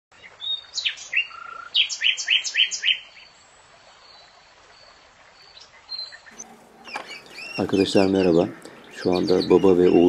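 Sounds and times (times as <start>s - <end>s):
songbird singing: 0.2s - 10.0s.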